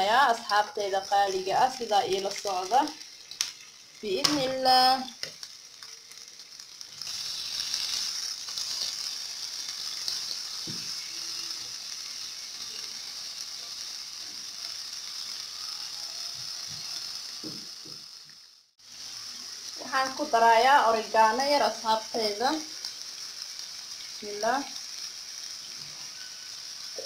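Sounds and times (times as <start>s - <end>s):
vegetables sizzling in a frying pan: 0.0s - 27.0s.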